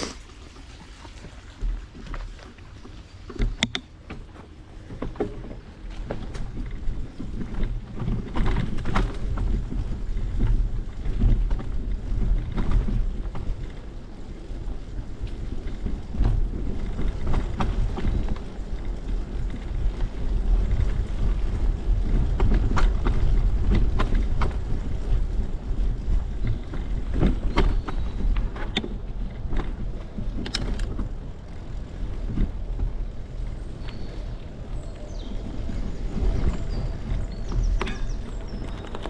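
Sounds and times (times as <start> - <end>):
bicycle clicks and rattles: 0.0 - 39.0
bicycle tyre noise: 0.0 - 39.0
wind rumbling on microphone: 0.0 - 39.0.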